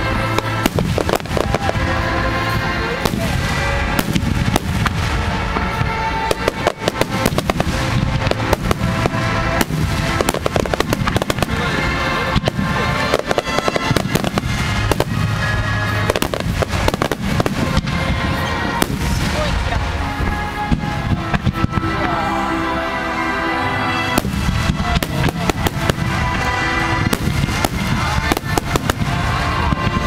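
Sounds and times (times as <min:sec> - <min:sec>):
fireworks bangs and crackles: 0:00.0 - 0:30.0
music playing: 0:00.0 - 0:30.0.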